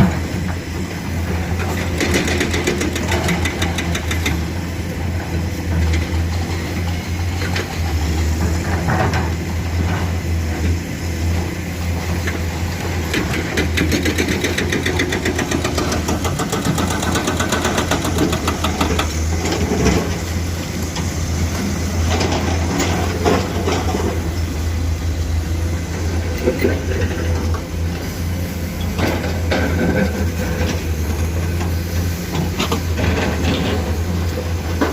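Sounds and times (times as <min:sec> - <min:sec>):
excavator diesel engines running: 0:00.0 - 0:34.9.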